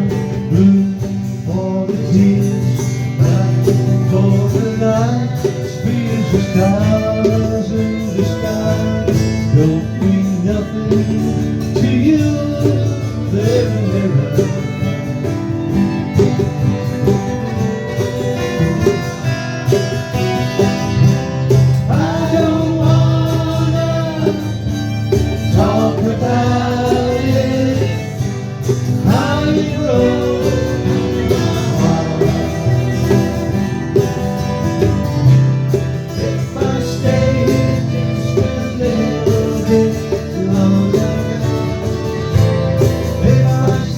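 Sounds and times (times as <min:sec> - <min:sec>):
guitars strumming: 0:00.0 - 0:43.9.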